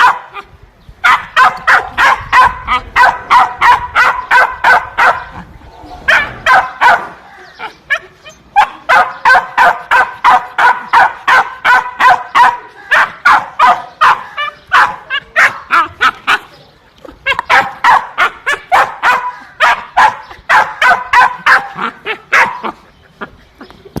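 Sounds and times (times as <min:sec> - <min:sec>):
dogs barking: 0:00.0 - 0:16.5, 0:17.2 - 0:23.0.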